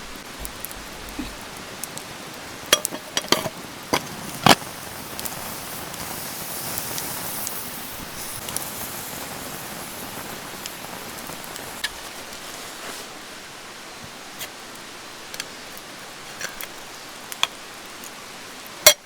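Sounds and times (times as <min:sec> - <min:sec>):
rain falling on a tarp: 0:00.0 - 0:18.9.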